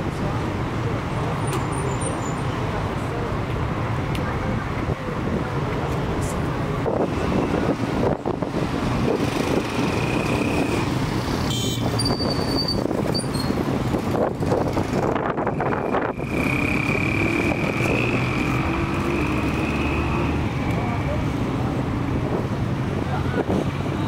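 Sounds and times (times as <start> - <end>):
street traffic passing: 0.0 - 24.0.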